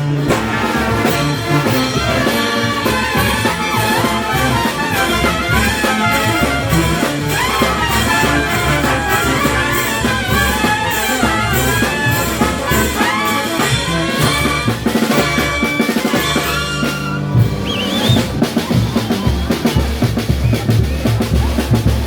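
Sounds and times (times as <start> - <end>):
brass band playing: 0.0 - 22.0
steady drum beat: 0.0 - 22.0.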